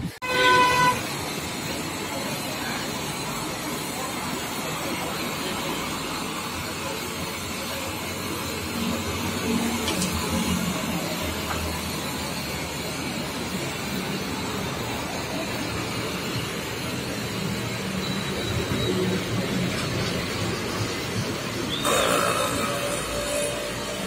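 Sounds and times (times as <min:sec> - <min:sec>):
blowtorch flame hissing: 0:00.2 - 0:24.0.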